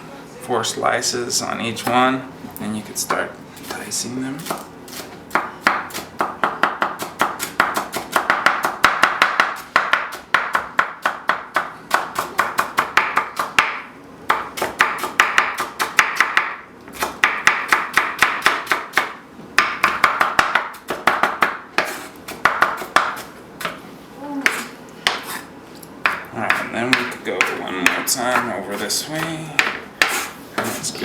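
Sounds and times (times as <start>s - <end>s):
knife chopping on cutting board: 3.1s - 23.8s, 24.4s - 30.9s.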